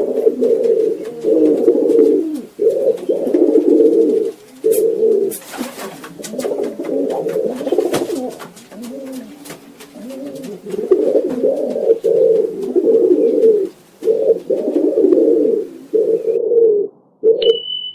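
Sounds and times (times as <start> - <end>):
pigeons cooing: 0.0 - 17.5.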